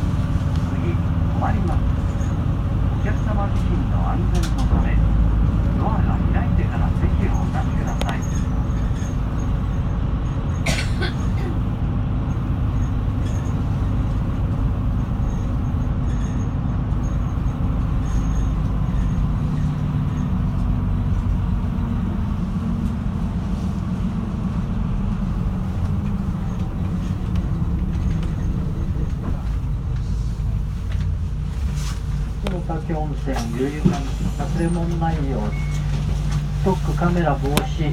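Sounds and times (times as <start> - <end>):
bus engine and road rumble: 0.0 - 37.9.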